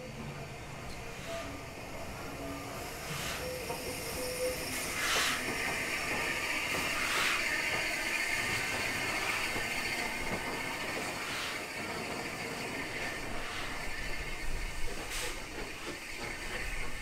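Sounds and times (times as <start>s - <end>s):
steam locomotive hiss: 0.0s - 17.0s
loud steam bursts: 2.8s - 17.0s.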